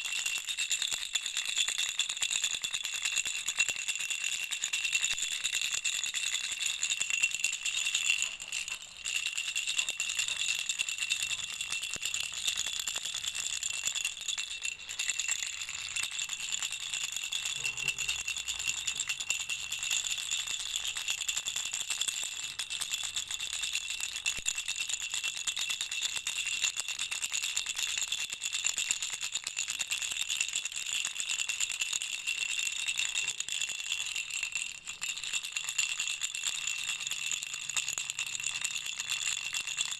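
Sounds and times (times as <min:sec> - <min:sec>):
baby rattle jingling: 0:00.0 - 0:27.0, 0:31.8 - 0:39.9.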